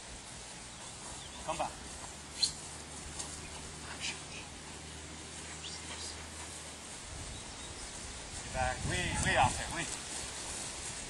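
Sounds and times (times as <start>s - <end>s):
faint hiss: 0.0s - 11.0s
steady low hum: 0.0s - 11.0s.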